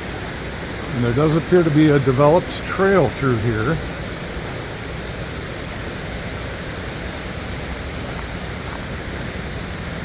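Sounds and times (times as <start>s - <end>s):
small waterfall roaring: 0.0s - 10.0s
stream rushing over rocks: 0.0s - 10.0s.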